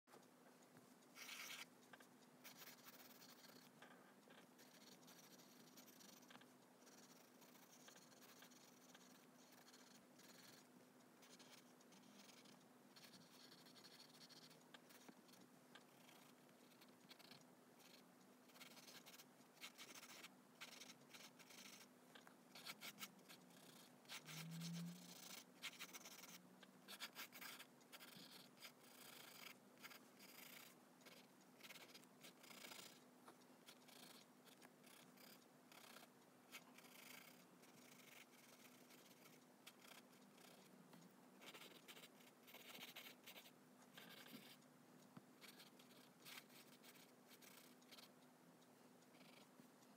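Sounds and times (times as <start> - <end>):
pencil scratching on paper: 1.2 - 15.4, 16.0 - 21.9, 22.5 - 33.0, 33.7 - 40.7, 41.4 - 44.6, 45.4 - 48.1.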